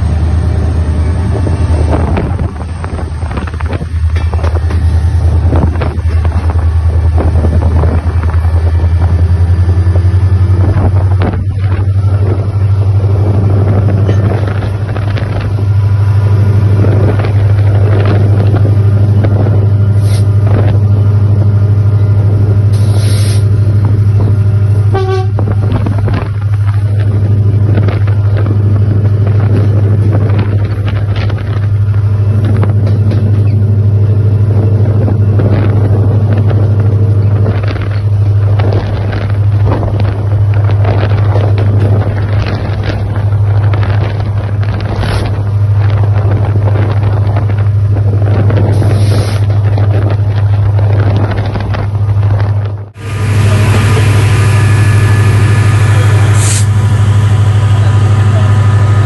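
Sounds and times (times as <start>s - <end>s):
train passing rumble: 0.0s - 59.0s
wheels clattering over rails: 0.0s - 59.0s.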